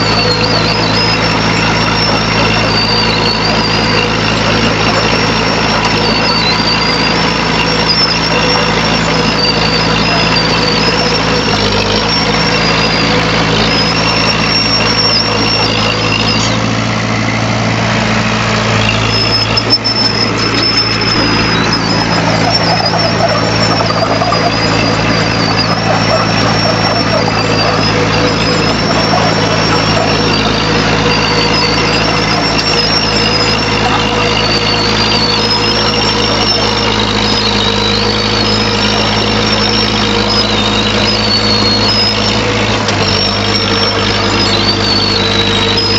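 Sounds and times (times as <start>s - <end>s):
diesel engine running: 0.0s - 45.9s
high wavering squeal: 0.0s - 45.9s.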